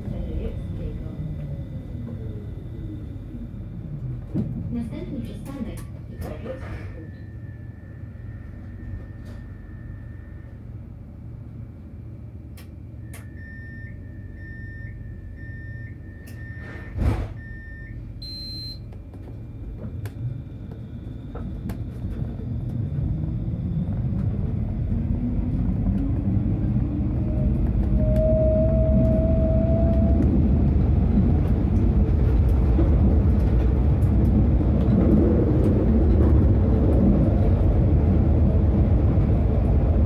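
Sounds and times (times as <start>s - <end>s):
tram rumble: 0.0s - 40.0s.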